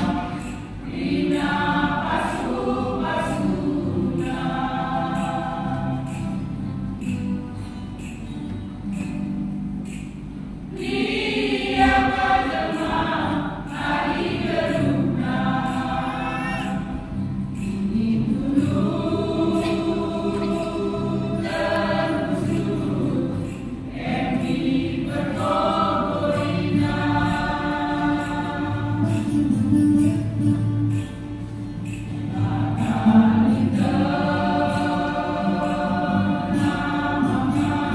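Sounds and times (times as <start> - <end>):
choir singing in harmony: 0.0 - 6.7, 10.7 - 30.4, 31.9 - 37.9.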